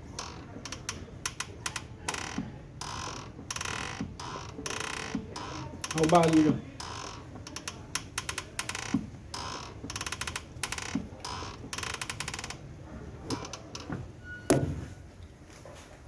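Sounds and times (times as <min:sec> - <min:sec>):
clutch pedal creaking clicks: 0:00.0 - 0:14.6.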